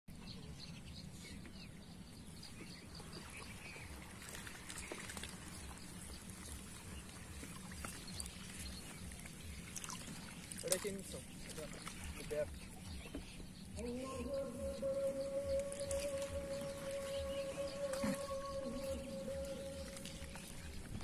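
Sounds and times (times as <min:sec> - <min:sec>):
birds calling: 0:00.1 - 0:21.0.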